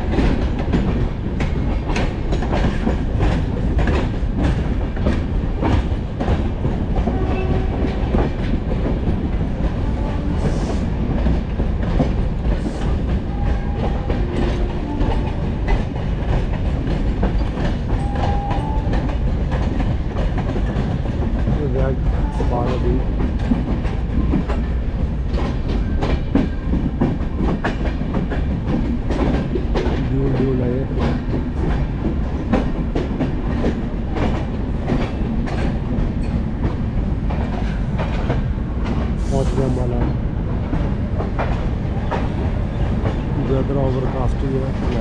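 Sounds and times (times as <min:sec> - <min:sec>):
wheels clacking over rail joints: 0:00.0 - 0:39.3, 0:39.9 - 0:45.0
train wheels rumbling on rails: 0:00.0 - 0:45.0.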